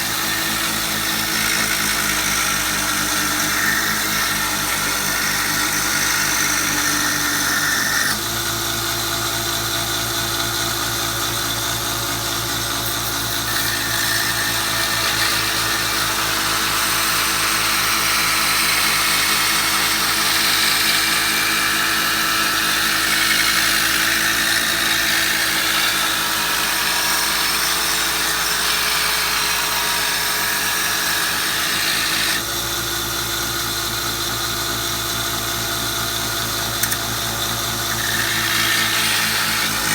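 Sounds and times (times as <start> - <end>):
blade grinding on sanding belt: 0.0 - 8.2, 10.8 - 32.6, 36.0 - 39.9
belt sander motor running: 0.0 - 39.9.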